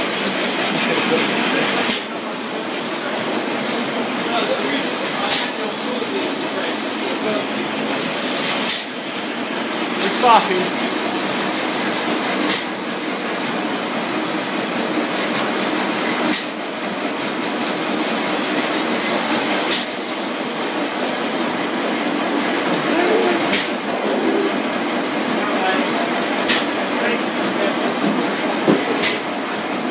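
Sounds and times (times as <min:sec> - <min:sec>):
engine sharp crack: 0:00.0 - 0:29.6
gas engine clattering: 0:00.0 - 0:29.9.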